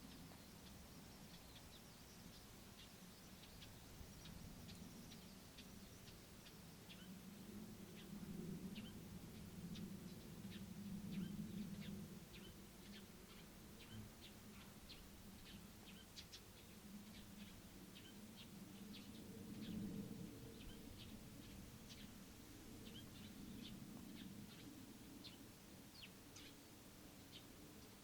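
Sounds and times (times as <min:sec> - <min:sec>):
faint low rumble: 0:00.0 - 0:28.0
small birds chirping: 0:00.0 - 0:28.0.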